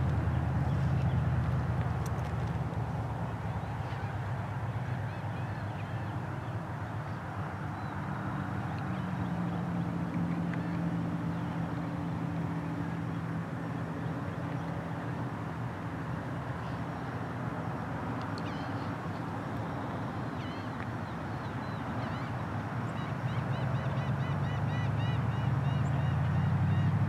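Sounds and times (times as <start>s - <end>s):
distant engine drone: 0.0s - 27.0s
outdoor noise: 0.0s - 27.0s.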